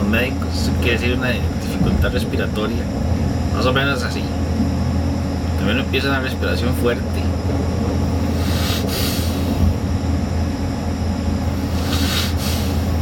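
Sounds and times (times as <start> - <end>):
vehicle low drone: 0.0 - 13.0.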